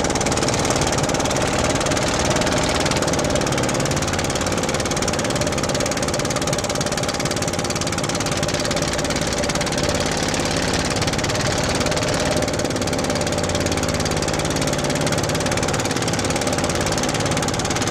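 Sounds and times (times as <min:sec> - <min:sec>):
boat engine knocking: 0:00.0 - 0:17.9.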